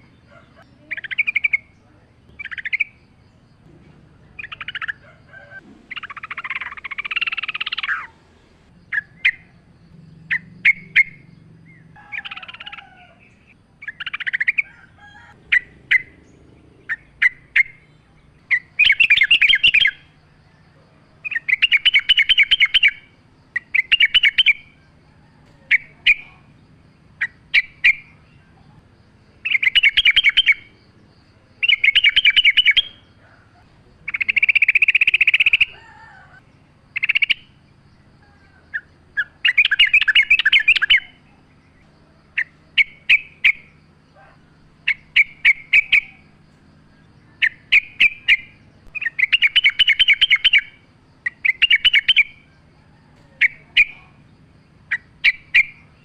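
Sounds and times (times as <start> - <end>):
bird chirping: 0.0 - 56.0
rapid stuttering bird phrases: 0.0 - 56.0.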